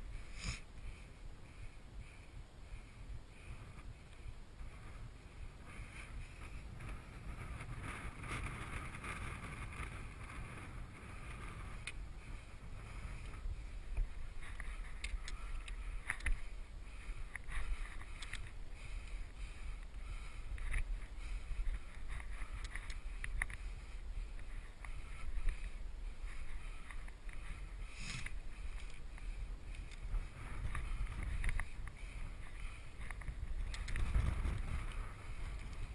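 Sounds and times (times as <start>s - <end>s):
wind buffeting microphone: 2.8s - 35.9s.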